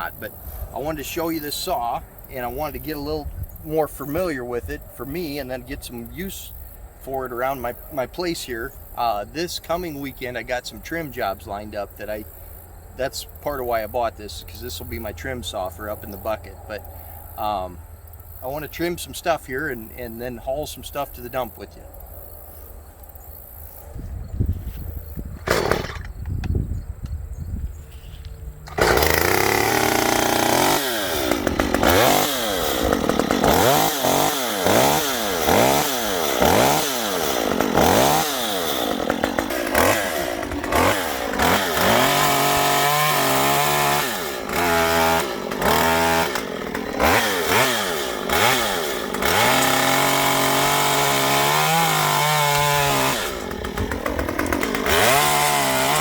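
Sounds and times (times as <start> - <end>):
chainsaw revving and idling: 0.0 - 22.6, 25.5 - 26.2, 28.7 - 56.0.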